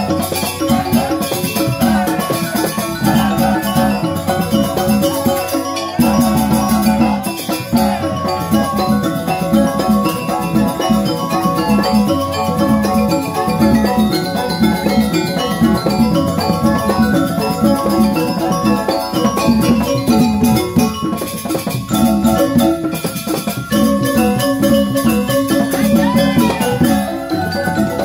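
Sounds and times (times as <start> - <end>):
gamelan mallet instruments: 0.0 - 28.0
hand drums: 0.0 - 28.0.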